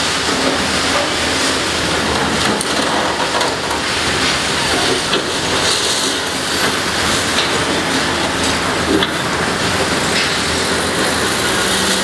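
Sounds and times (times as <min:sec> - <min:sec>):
excavator crushing concrete: 0:00.2 - 0:12.0.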